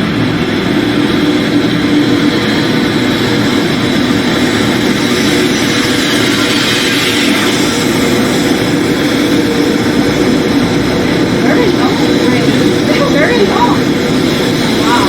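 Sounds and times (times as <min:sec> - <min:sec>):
high-speed train rushing: 0:00.0 - 0:15.0.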